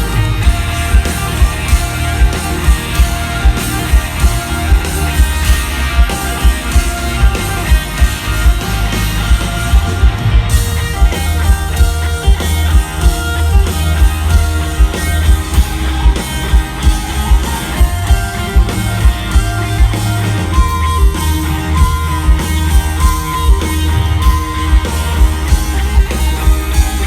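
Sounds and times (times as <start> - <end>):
electric guitar held high note: 0.0 - 27.0
rock band playing live: 0.0 - 27.0.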